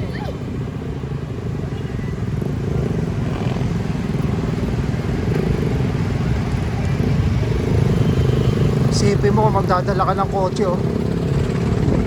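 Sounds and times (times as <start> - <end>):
vehicle engines droning in traffic: 0.0 - 12.0.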